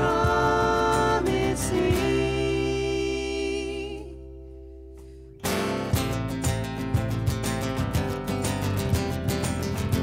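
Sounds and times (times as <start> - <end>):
strummed acoustic guitars: 0.0 - 10.0.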